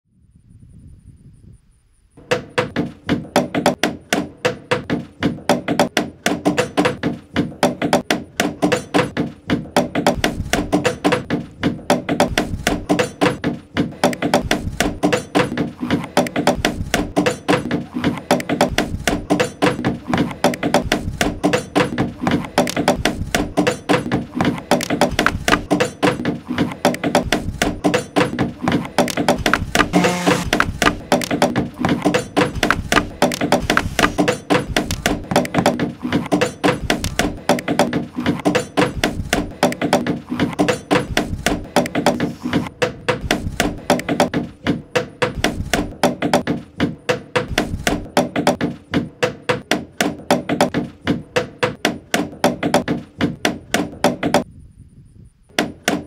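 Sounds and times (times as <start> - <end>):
hammers striking nails into wood: 2.2 - 54.5, 55.6 - 56.0.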